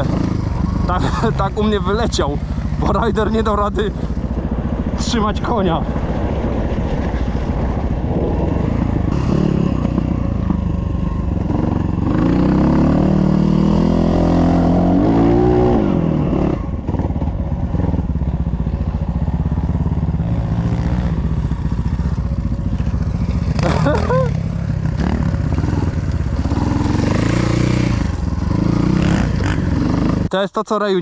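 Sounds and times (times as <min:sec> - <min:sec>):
dirt bike engine revving: 0:00.0 - 0:30.3
engine running steadily: 0:00.0 - 0:30.3.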